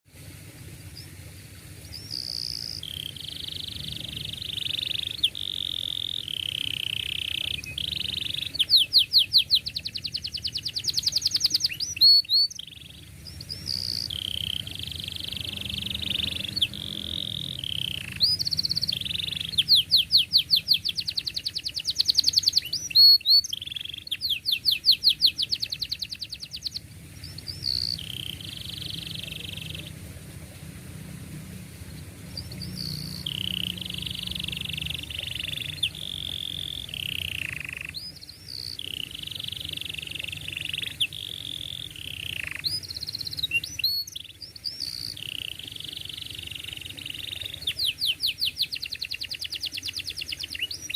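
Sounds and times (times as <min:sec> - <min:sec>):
canary singing with trills: 0:01.8 - 0:30.3, 0:31.8 - 0:50.9.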